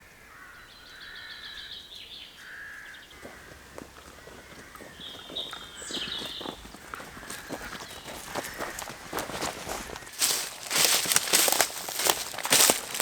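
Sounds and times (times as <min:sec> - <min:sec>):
birds warbling: 0:00.1 - 0:13.0
footsteps through dry leaves: 0:02.4 - 0:13.0.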